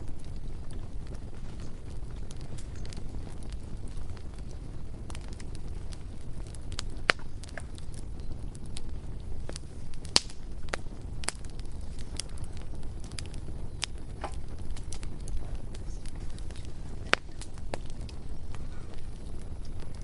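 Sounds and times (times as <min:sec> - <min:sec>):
bonfire crackling and popping: 0:00.0 - 0:20.0
flames rumbling: 0:00.0 - 0:20.0.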